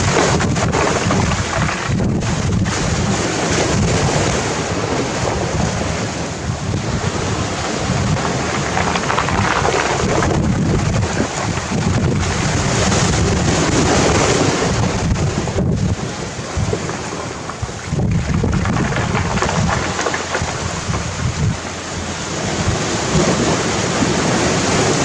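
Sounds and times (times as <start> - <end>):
waves washing over pebbles: 0.0 - 25.0
wind buffeting microphone: 0.0 - 25.0.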